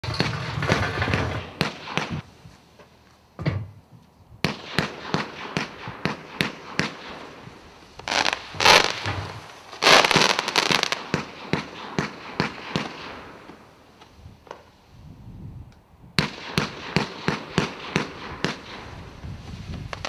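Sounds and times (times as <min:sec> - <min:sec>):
firework crackling: 0:00.0 - 0:02.4, 0:04.4 - 0:15.0, 0:16.2 - 0:20.0.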